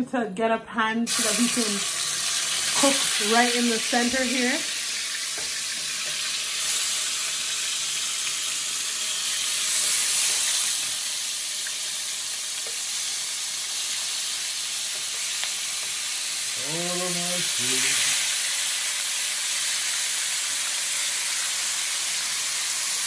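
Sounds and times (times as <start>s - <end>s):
chicken sizzling in oil: 1.1s - 23.0s.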